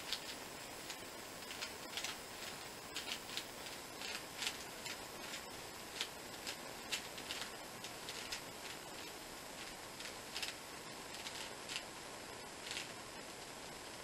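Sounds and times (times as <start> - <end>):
puzzle cube layers clicking: 0.0 - 11.9.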